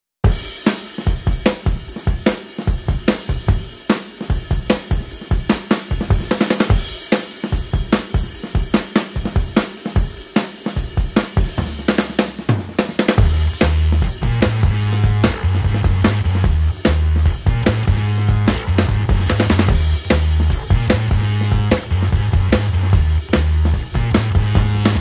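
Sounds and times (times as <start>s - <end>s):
drum kit beat: 0.2s - 25.0s.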